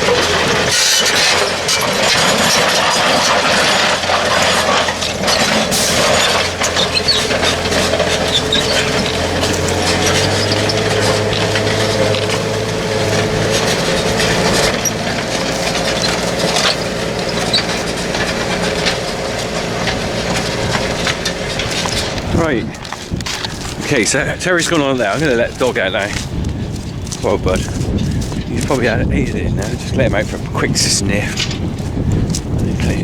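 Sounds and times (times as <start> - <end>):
rattling and clattering: 0.0 - 33.0
vehicle engine droning: 0.0 - 33.0.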